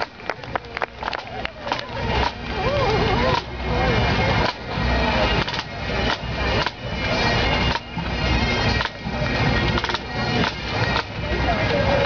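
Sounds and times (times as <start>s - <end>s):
marching drum corps: 0.0s - 12.0s.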